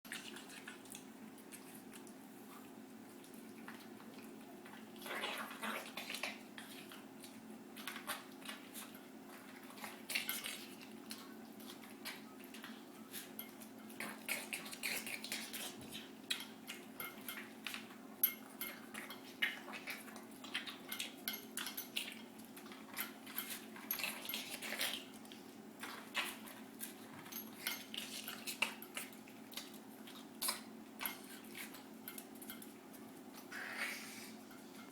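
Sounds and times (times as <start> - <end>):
pet crunching food: 0.1 - 34.9.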